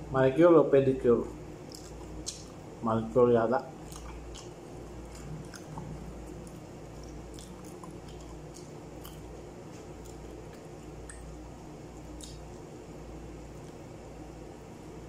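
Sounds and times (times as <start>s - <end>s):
steady low hum: 0.0s - 15.0s
chewing and wet squishing: 1.2s - 2.9s, 3.5s - 14.3s.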